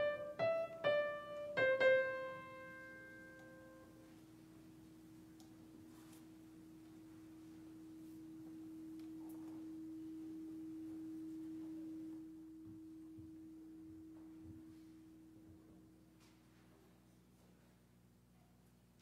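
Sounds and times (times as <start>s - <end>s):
steady pure tone: 0.0s - 16.2s.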